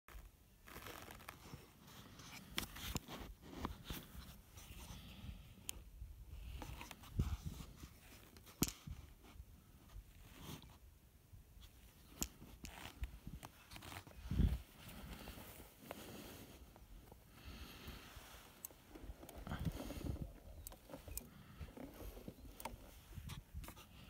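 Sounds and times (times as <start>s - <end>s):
camera rig rustling and clicking: 0.7s - 5.0s, 6.4s - 10.8s, 11.6s - 24.0s.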